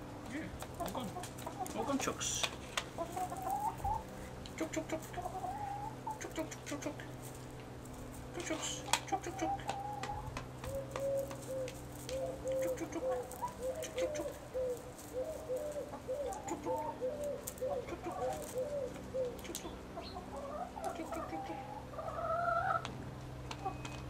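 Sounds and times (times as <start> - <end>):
hens clucking: 0.3 - 24.0.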